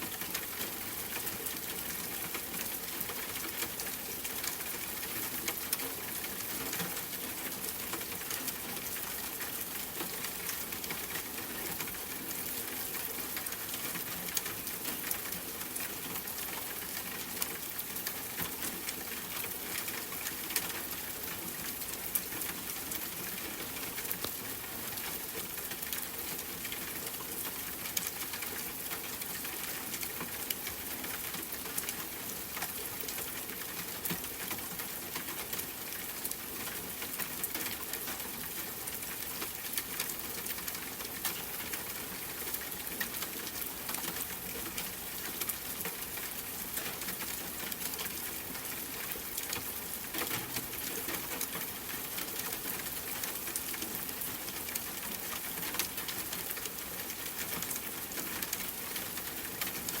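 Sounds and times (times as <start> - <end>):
rain pattering on window: 0.0 - 60.0.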